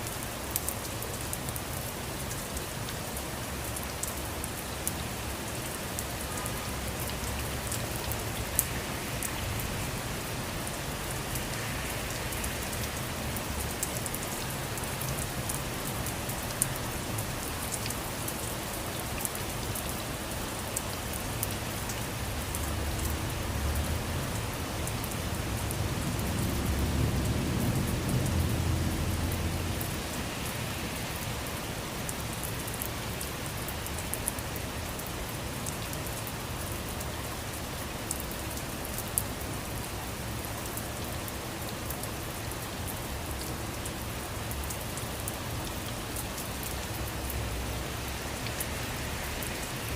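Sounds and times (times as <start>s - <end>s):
steady rainfall: 0.0s - 49.9s.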